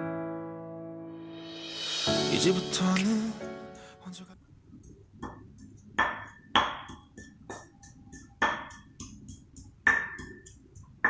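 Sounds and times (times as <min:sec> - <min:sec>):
faint background music: 0:00.6 - 0:11.0.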